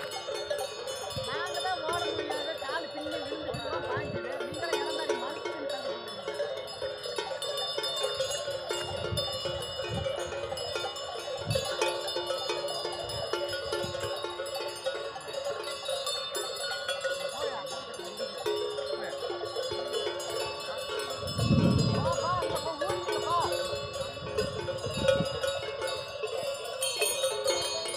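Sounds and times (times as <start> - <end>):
cattle bells clanking: 0.0 - 27.9.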